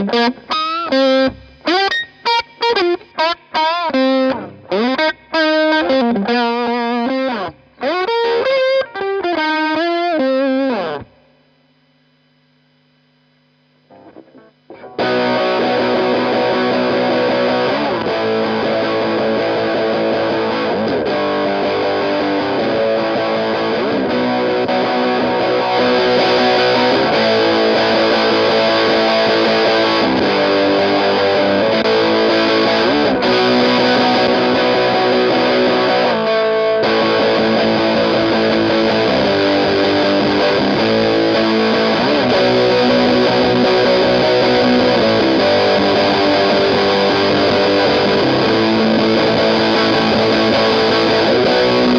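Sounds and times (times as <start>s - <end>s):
guitar slide: 0.0s - 11.2s, 13.9s - 51.9s
distorted electric guitar: 0.0s - 51.9s.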